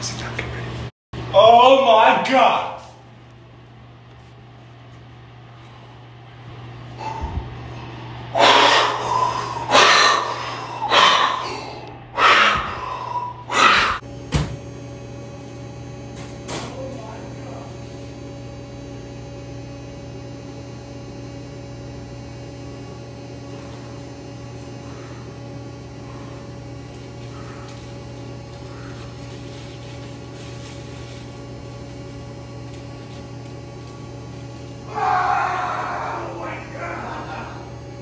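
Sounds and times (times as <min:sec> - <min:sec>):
electrical hum of equipment: 0:00.0 - 0:38.0.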